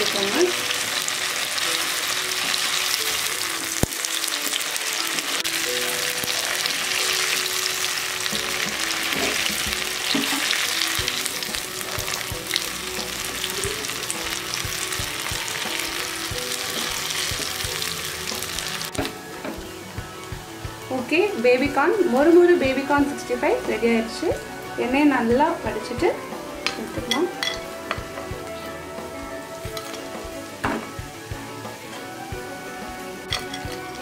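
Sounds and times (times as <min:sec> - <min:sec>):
food deep-frying in oil: 0:00.0 - 0:34.0.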